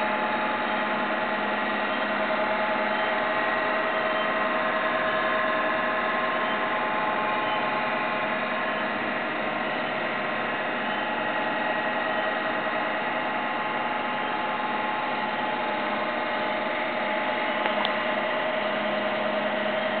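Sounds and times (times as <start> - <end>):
scanner drum whirring: 0.0 - 20.0
whining tones: 0.0 - 20.0.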